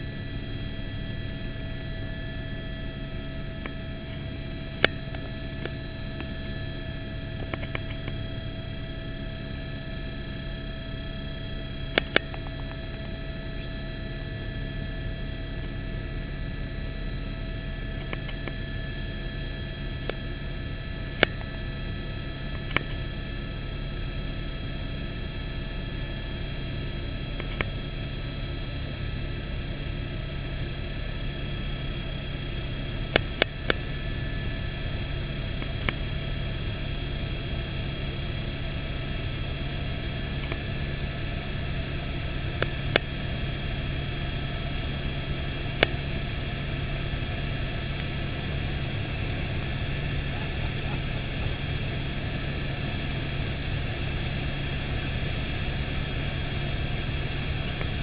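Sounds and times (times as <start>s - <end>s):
helicopter drone from cabin: 0.0s - 58.0s.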